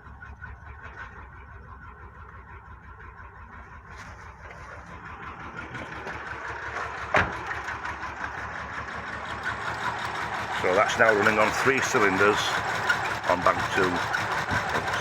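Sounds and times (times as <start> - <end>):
engine idling rough with misfires: 0.0 - 15.0.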